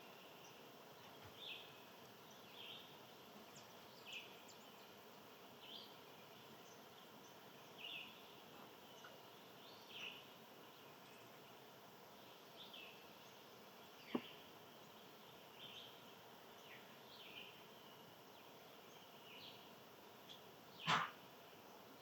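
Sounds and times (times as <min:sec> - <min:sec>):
small birds chirping faintly: 0:00.0 - 0:22.0.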